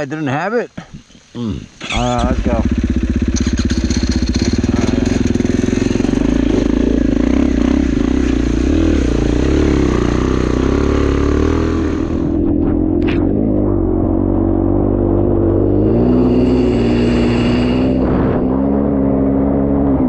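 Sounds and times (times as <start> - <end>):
dirt bike engine pulling away: 1.4 - 20.0.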